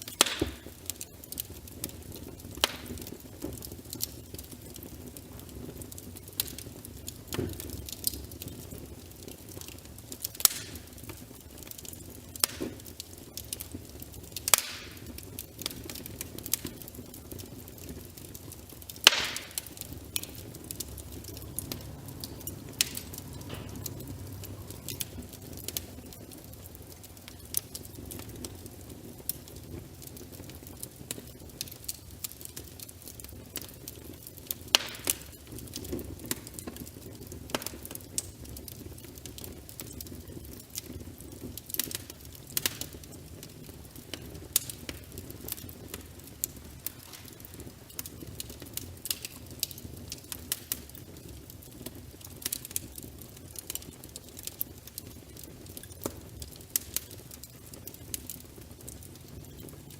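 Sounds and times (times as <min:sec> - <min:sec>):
soft steady hiss: 0:00.0 - 0:59.9
wood fire crackling and popping: 0:00.0 - 0:59.9.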